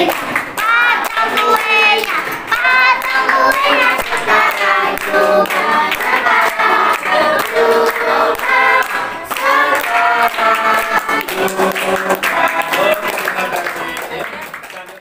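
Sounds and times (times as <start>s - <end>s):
group of people singing: 0.0s - 14.6s
people clapping along: 0.0s - 15.0s.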